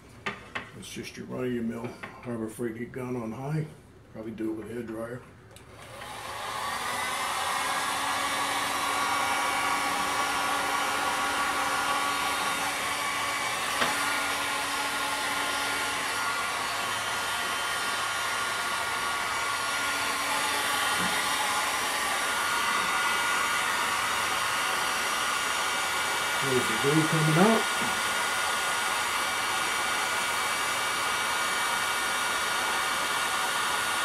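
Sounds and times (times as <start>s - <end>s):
heat gun blowing: 5.6s - 34.0s.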